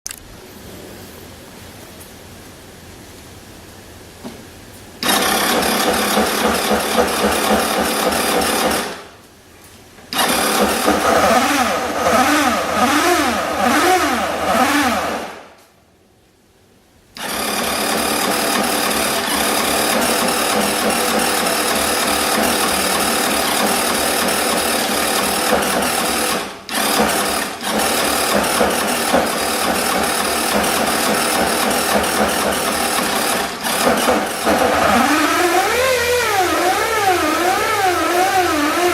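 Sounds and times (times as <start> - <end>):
scooter engine with mechanical noise: 5.0 - 9.2, 10.1 - 15.5, 17.2 - 38.9.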